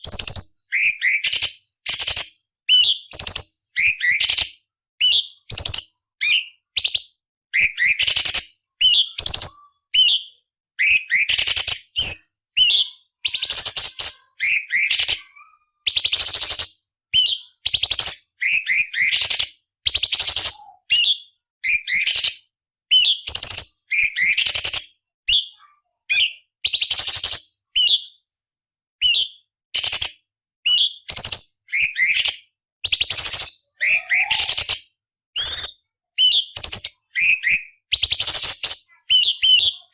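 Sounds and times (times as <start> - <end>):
bird singing and chattering: 0.0 - 28.4, 29.0 - 39.9.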